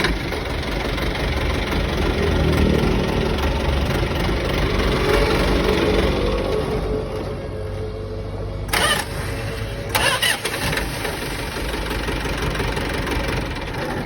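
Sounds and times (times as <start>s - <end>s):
truck engine turning over: 0.0s - 14.0s.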